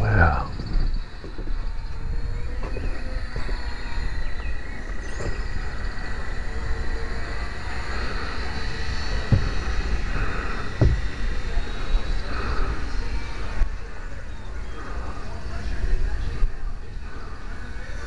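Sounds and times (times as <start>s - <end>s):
electric motors whining: 0.0s - 18.0s
wind rumble on microphone: 0.0s - 18.0s.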